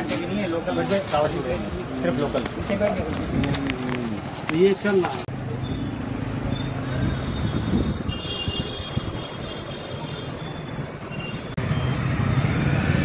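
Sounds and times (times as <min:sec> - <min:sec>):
street bustle: 0:00.0 - 0:13.0
vehicle engines humming: 0:00.0 - 0:13.0.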